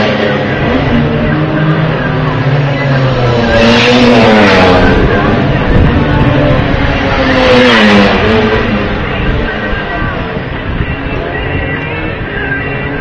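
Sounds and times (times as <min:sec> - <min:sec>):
racing motorcycles at full throttle: 0:00.0 - 0:13.0.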